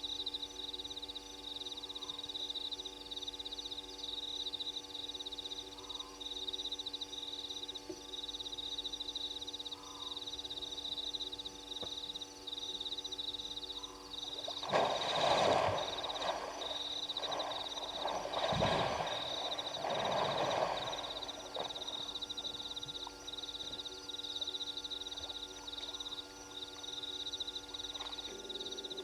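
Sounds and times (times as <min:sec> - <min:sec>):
frogs and insects chorus: 0:00.0 - 0:29.0.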